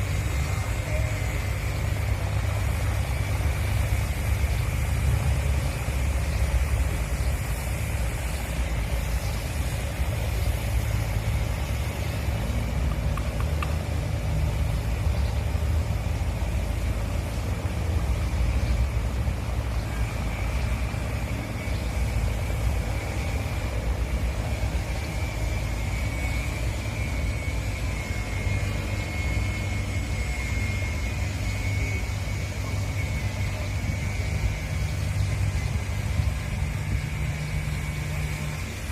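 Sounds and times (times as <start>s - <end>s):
low engine rumble: 0.0s - 38.9s.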